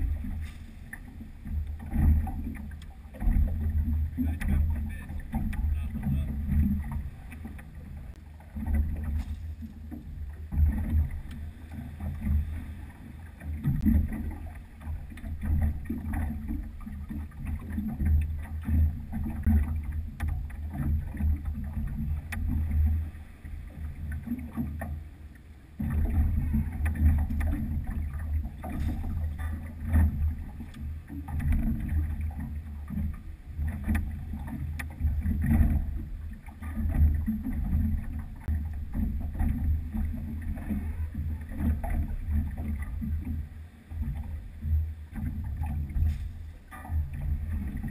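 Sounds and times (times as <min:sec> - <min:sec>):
small boat engine rumbling: 0:00.0 - 0:47.9.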